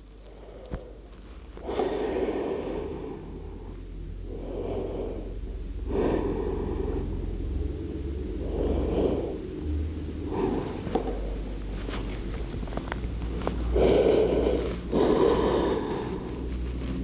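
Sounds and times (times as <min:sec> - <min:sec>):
person breathing deeply: 0:00.0 - 0:12.0, 0:13.4 - 0:17.0.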